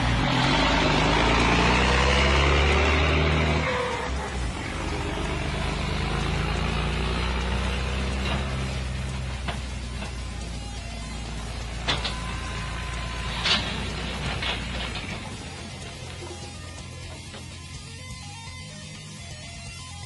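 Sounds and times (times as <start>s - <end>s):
truck diesel engine under load: 0.0s - 19.2s.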